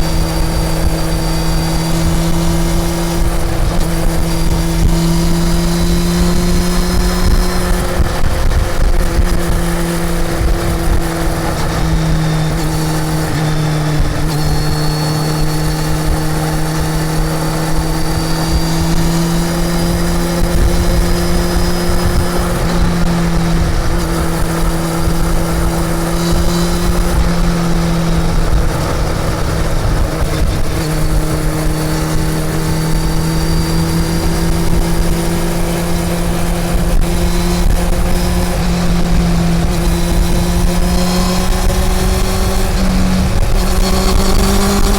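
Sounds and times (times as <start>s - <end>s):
motorcycle engine running: 0.0s - 44.9s
wind noise: 0.0s - 44.9s.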